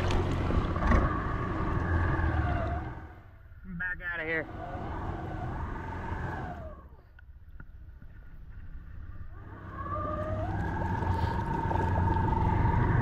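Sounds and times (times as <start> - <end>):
atv engine and drivetrain whine: 0.0 - 13.0.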